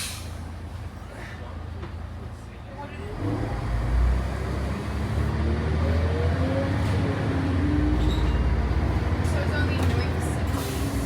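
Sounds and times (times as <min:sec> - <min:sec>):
bus diesel engine accelerating: 0:00.0 - 0:11.0.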